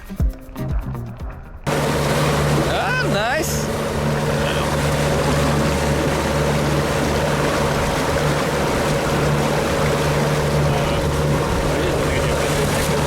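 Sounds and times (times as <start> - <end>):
boat motor humming: 1.2 - 13.0
water rushing: 1.7 - 13.0.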